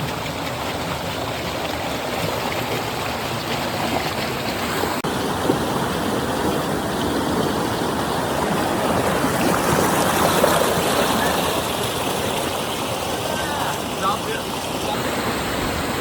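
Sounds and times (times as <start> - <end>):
stream rushing and splashing: 0.0 - 16.0.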